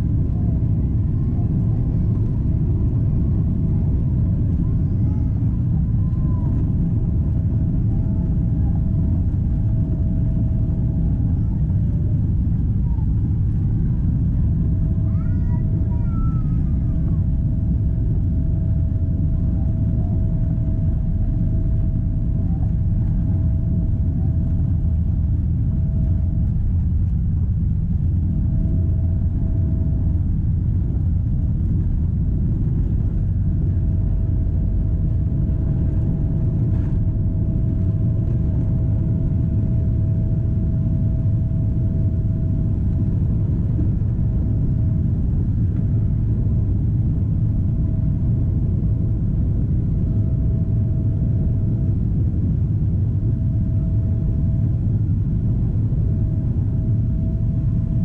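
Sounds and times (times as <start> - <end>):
faint steady whine: 0.0 - 58.0
jet engine rumble: 0.0 - 58.0.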